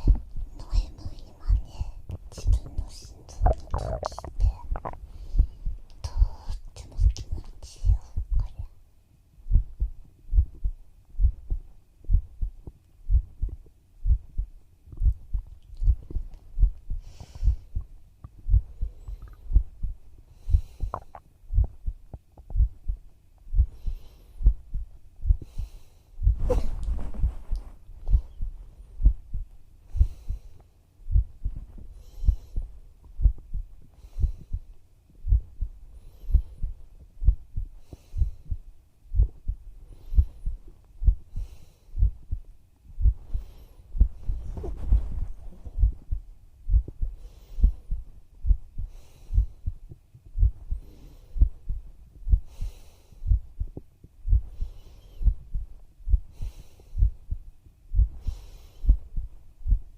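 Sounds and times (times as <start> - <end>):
heartbeat thumps: 0.0 - 8.6, 9.4 - 59.9.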